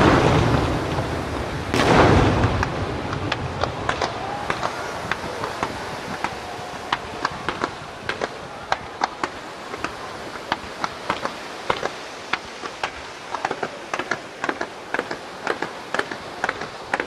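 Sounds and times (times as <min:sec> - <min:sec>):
fireworks hissing: 0:00.0 - 0:17.0
fireworks popping and banging: 0:00.0 - 0:17.0.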